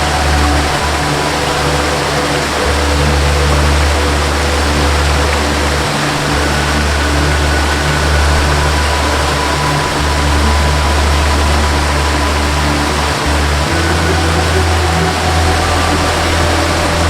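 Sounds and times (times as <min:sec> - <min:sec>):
deep bass drone: 0:00.0 - 0:17.0
slow melody of held notes: 0:00.0 - 0:17.0
waterfall rushing: 0:00.0 - 0:17.0.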